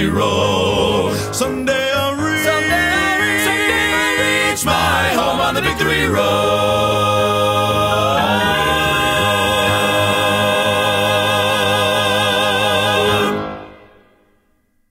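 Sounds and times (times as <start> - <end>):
vocal quartet singing a chord: 0.0 - 14.2.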